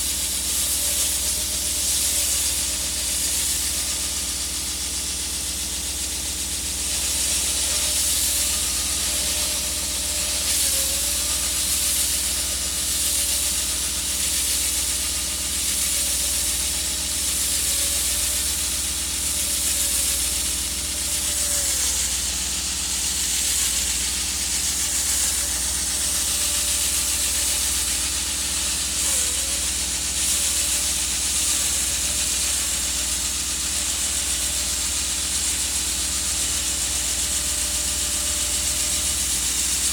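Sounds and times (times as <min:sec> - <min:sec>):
concrete saw cutting: 0:00.0 - 0:39.9.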